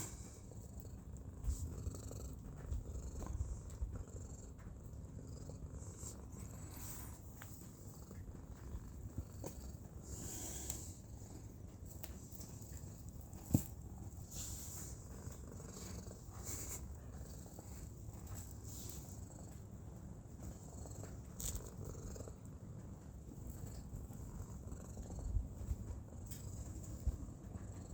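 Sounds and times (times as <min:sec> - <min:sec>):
cat purring: 0:00.0 - 0:27.9.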